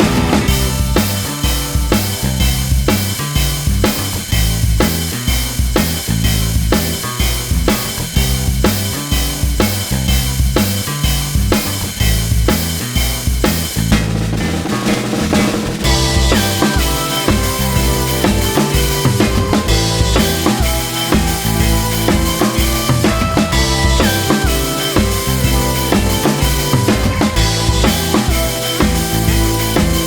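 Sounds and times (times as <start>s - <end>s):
bass: 0.0s - 30.0s
drums: 0.0s - 30.0s
guitar: 0.0s - 30.0s.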